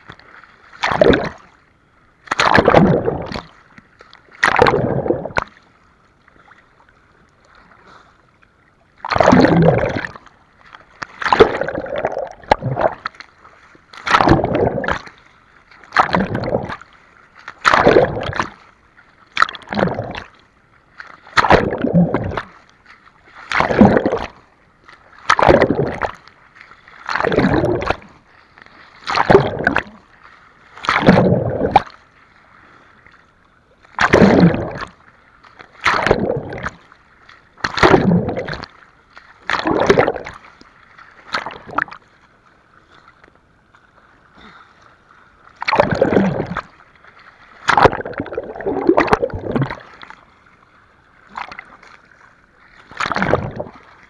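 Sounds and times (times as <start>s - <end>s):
seawater splashing: 0.0s - 54.0s.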